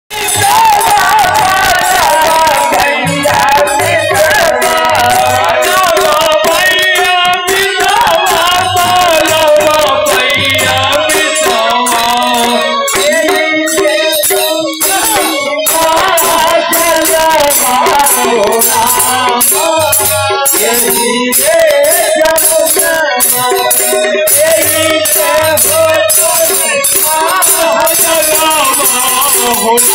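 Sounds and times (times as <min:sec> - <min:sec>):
dholak drum: 0:00.1 - 0:29.9
fast jingling percussion: 0:00.2 - 0:29.9
men singing folk song: 0:00.2 - 0:29.9.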